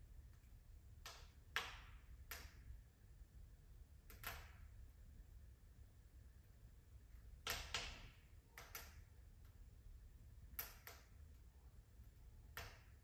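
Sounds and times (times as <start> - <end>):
faint low hum: 0.0 - 13.0
wood fire crackling: 0.0 - 13.0.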